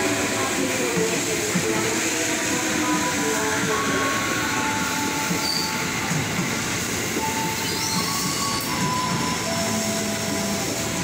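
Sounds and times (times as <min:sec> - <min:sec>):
train wheels rushing on rails: 0:00.0 - 0:11.0.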